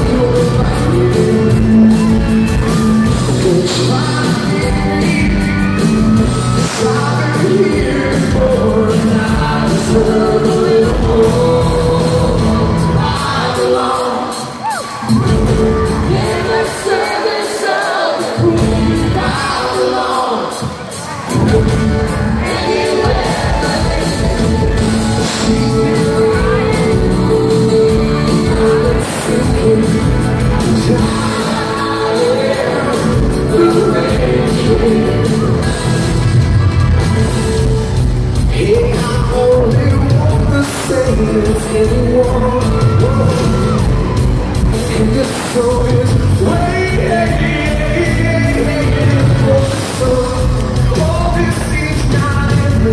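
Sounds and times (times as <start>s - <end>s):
live rock band playing: 0.0s - 52.9s
man singing: 0.0s - 52.9s.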